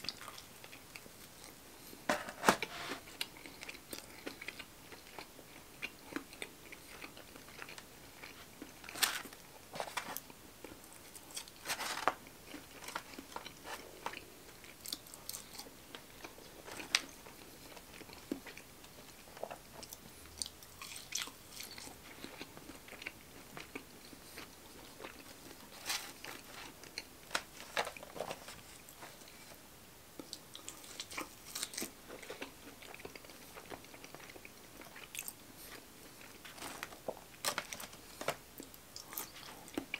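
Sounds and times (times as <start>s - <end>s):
crisp chewing crunches: 3.0s - 29.6s, 30.2s - 39.9s.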